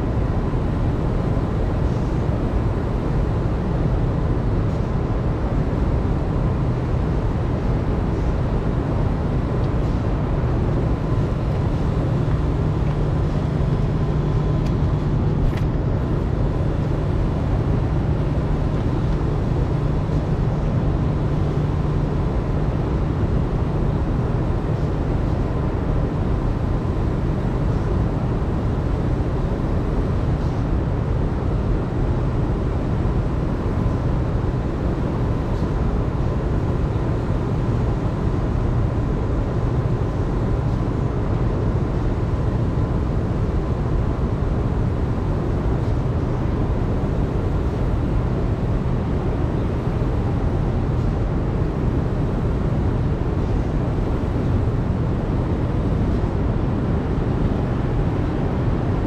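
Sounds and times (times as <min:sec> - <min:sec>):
deep engine hum: 0:00.0 - 0:59.0
engine droning: 0:00.0 - 0:59.0.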